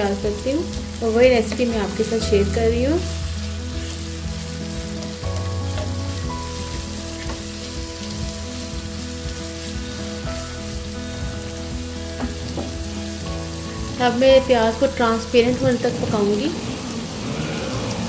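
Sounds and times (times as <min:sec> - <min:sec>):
onions sizzling in oil: 0:00.0 - 0:18.0
soft background music: 0:00.0 - 0:18.0.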